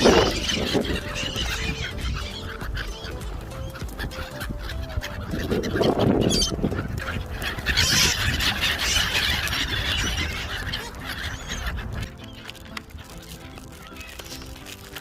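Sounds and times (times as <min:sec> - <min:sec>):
waterbirds calling: 0:00.0 - 0:15.0.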